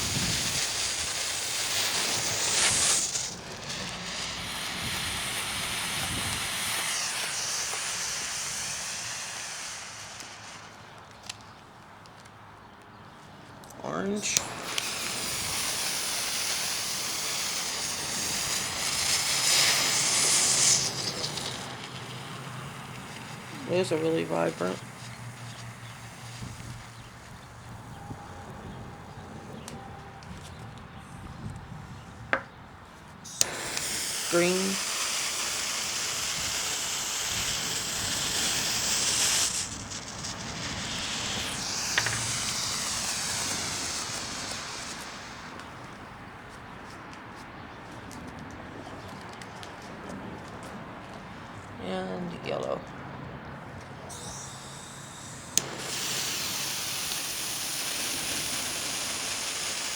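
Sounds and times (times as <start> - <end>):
smoke ball hissing: 0.0 - 12.0, 13.7 - 32.5, 33.2 - 46.9, 53.9 - 59.9.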